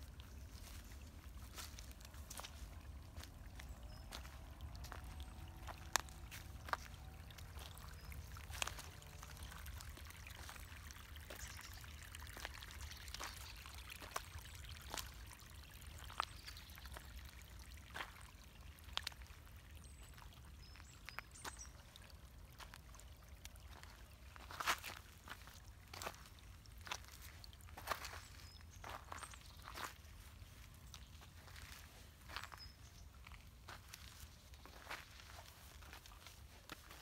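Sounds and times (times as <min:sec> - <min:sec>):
water trickling: 0:00.0 - 0:37.0.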